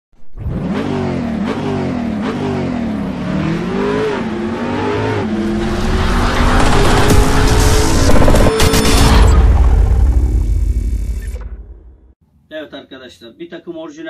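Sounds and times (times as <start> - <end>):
engine revving: 0.2 - 11.9.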